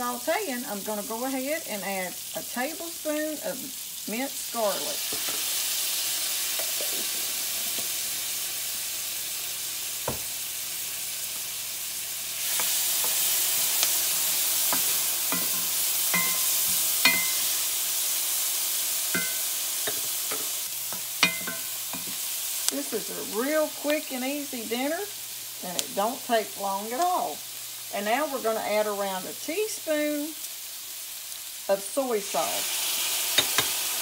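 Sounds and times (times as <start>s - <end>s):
vegetables sizzling in butter: 0.0s - 34.0s.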